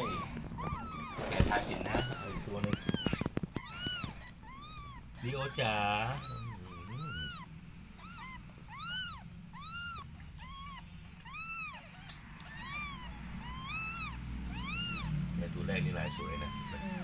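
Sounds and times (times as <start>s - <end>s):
kittens mewing: 0.0s - 17.0s.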